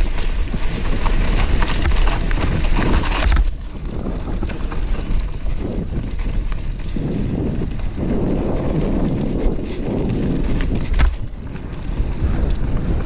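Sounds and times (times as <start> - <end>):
bike clicks and rattles: 0.0 - 13.0
tyres on dirt and stones: 0.0 - 13.0
wind buffeting microphone: 0.0 - 13.0.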